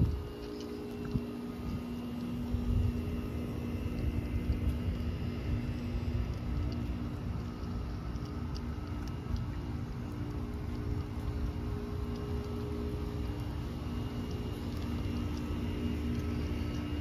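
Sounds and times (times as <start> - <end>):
mechanical hum with held tones: 0.0 - 17.0
wind rumble on microphone: 0.0 - 17.0.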